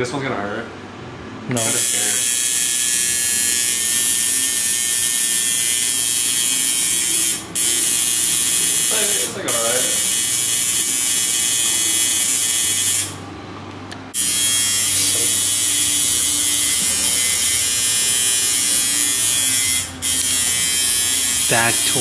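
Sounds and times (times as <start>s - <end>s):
tattoo machine buzzing: 1.6s - 13.2s, 14.1s - 22.0s.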